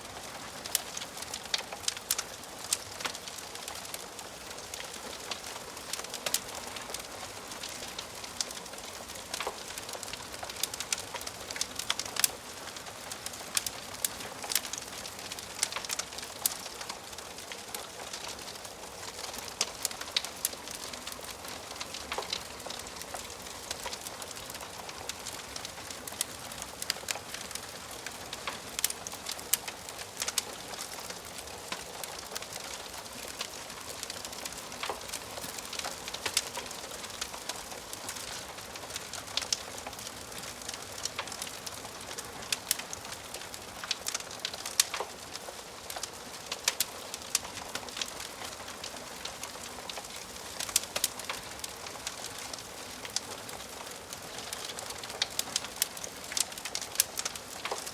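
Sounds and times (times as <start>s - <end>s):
fire hissing softly: 0.0s - 57.9s
wood fire crackling and popping: 0.0s - 57.9s.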